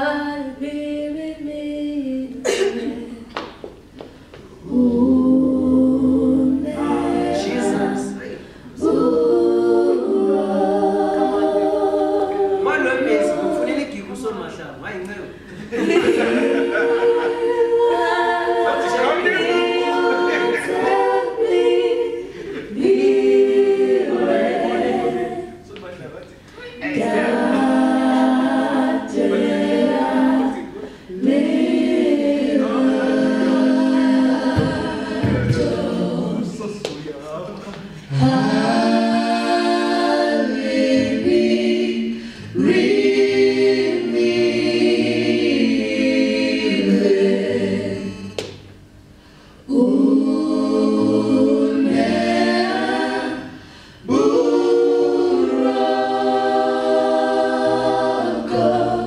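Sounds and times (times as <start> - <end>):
choir singing a capella: 0.0 - 3.4, 4.4 - 14.5, 15.5 - 25.7, 26.6 - 36.9, 37.8 - 59.0.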